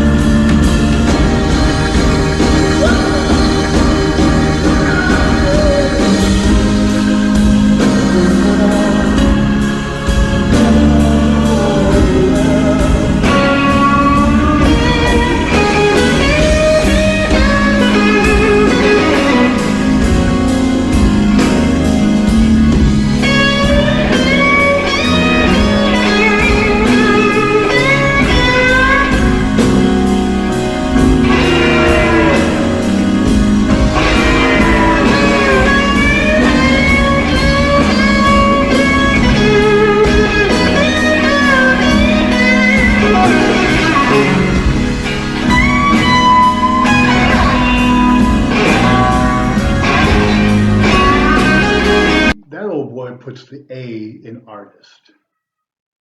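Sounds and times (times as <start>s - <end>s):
electric blues guitar: 0.0s - 52.4s
bass and drum groove: 0.0s - 52.8s.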